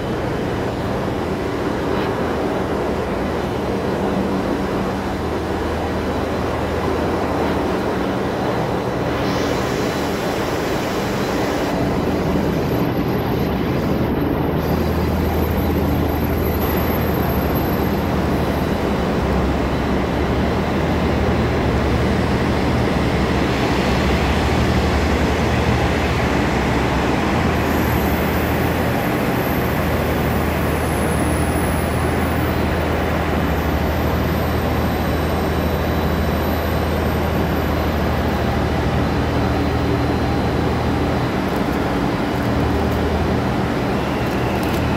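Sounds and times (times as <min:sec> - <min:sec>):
diesel railcar engine idling: 0:00.0 - 0:44.9.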